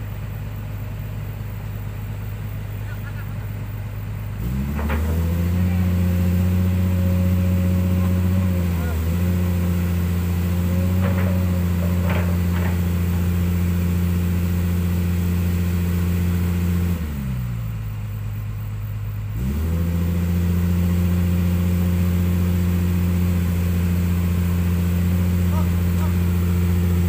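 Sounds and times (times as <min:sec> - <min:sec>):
excavator diesel engine revving: 0:00.0 - 0:27.0.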